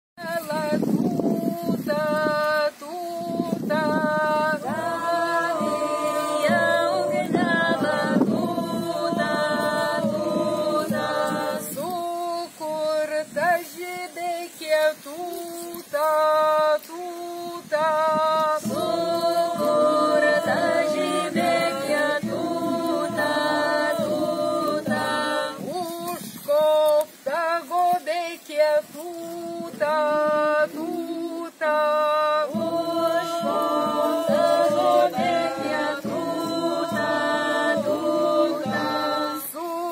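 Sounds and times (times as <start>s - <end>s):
woman singing unaccompanied: 0.2s - 39.9s.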